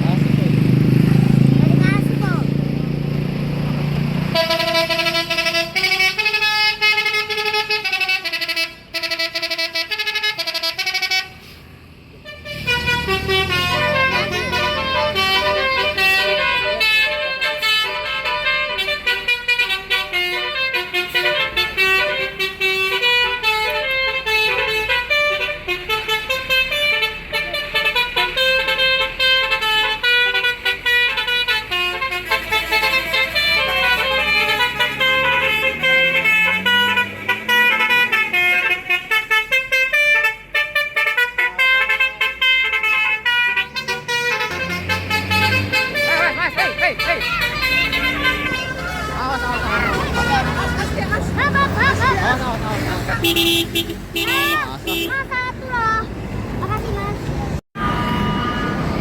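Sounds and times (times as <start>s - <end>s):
multi-tone musical bus horn: 4.2s - 56.4s, 57.5s - 59.0s.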